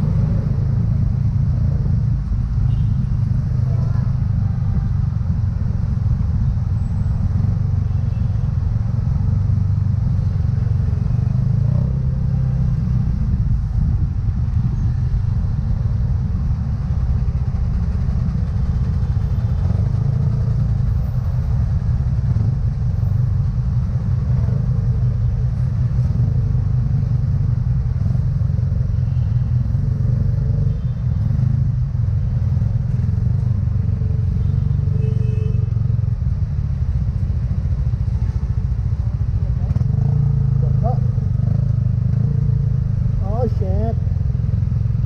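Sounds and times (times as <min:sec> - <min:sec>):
road noise: 0:00.0 - 0:45.0
surrounding traffic: 0:00.0 - 0:45.0.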